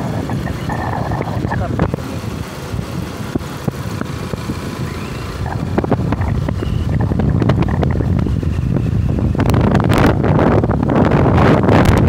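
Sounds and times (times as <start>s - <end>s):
low motorcycle rumble: 0.0s - 12.0s
wind rushing over microphone: 0.0s - 12.0s.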